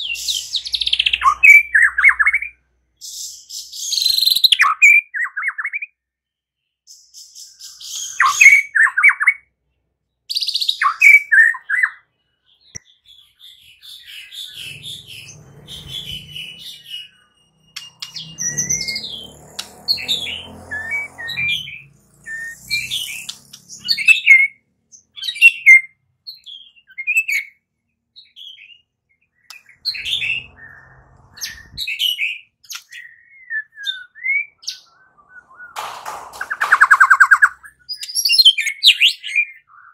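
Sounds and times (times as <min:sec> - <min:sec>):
bird singing whistles and chirps: 0:00.0 - 0:06.0, 0:06.9 - 0:09.5, 0:10.3 - 0:27.6, 0:28.2 - 0:35.8, 0:36.4 - 0:39.9.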